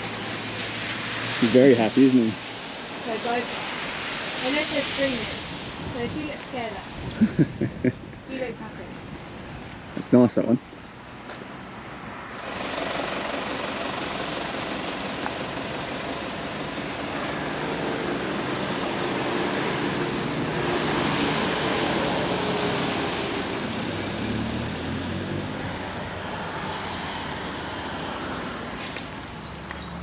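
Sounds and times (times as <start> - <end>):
engine drone passing by: 0.0 - 9.9, 10.8 - 30.0.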